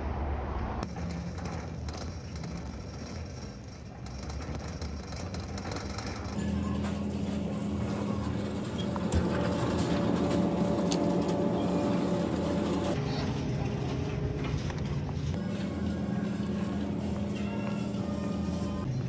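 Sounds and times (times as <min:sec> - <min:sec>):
refrigerator hum: 0:00.8 - 0:19.0.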